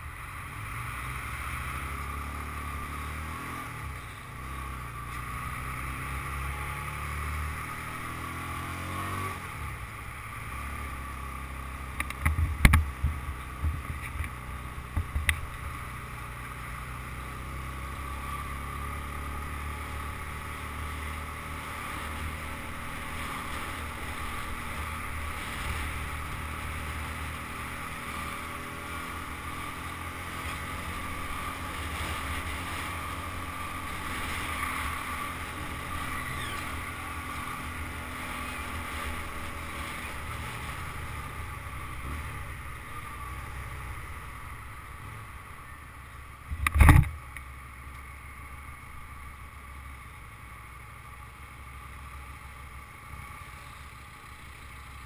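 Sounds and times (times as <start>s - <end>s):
motorcycle engine accelerating: 0.0s - 47.4s.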